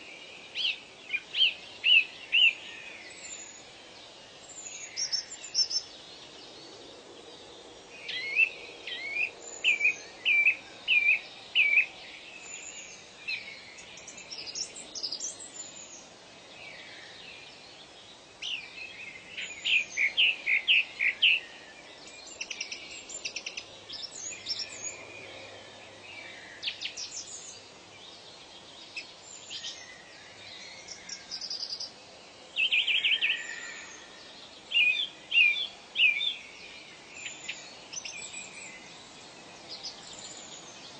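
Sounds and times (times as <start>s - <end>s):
birds chirping: 0.0s - 40.9s
outdoor ambience hiss: 0.0s - 40.9s.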